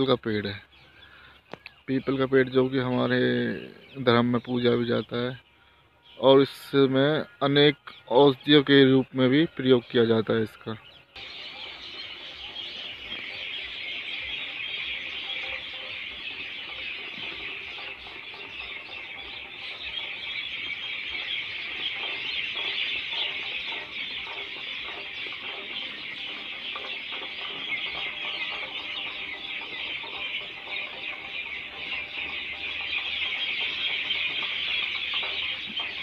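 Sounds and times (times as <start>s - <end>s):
chorus of birds chattering: 0.0s - 36.0s.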